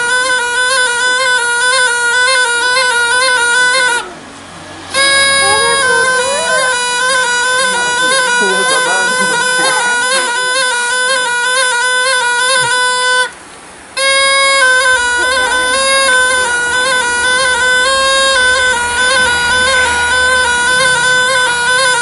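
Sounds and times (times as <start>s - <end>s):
reedy gourd pipe droning tune: 0.0s - 22.0s.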